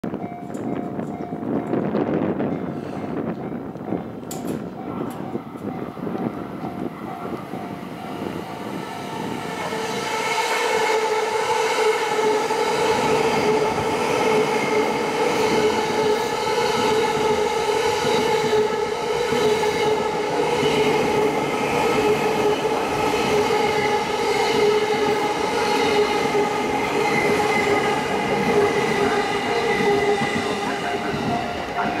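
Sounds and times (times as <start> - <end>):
electric train whine: 0.1 - 32.0
train wheels rolling: 0.3 - 32.0.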